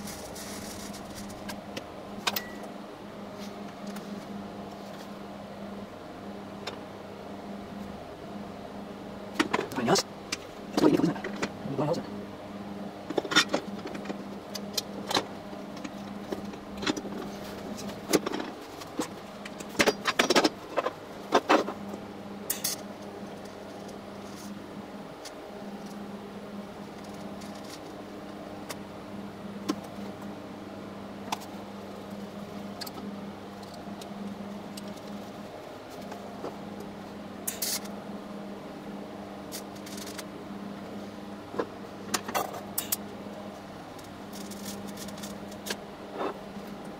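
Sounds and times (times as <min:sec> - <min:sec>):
welder electrical hum: 0:00.0 - 0:46.9.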